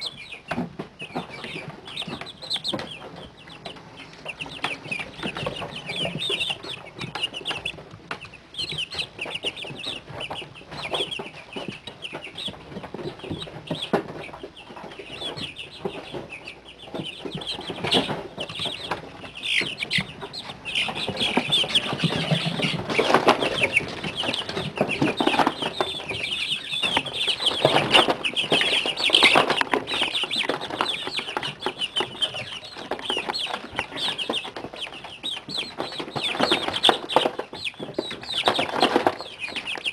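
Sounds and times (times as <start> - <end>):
chicks peeping: 0.0 - 39.9
rustling and scuffling: 0.6 - 39.9.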